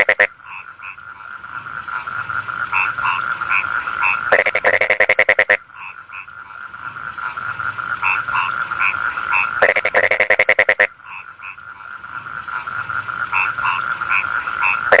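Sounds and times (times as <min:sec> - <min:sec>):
frogs calling in chorus: 0:00.0 - 0:15.0
loud rapid pulsed frog croak: 0:00.0 - 0:15.0.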